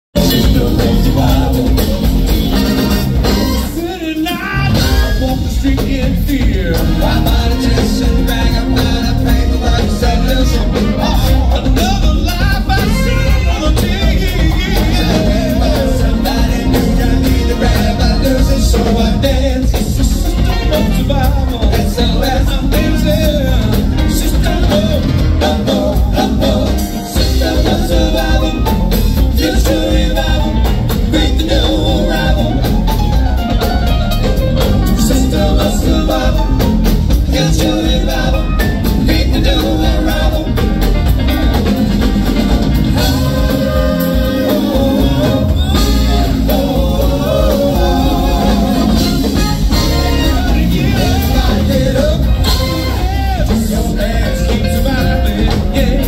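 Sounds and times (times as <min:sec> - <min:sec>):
drum kit: 0:00.1 - 0:56.0
electric guitar: 0:00.1 - 0:56.0
person singing: 0:00.2 - 0:33.6, 0:34.3 - 0:56.0
percussion: 0:00.2 - 0:56.0.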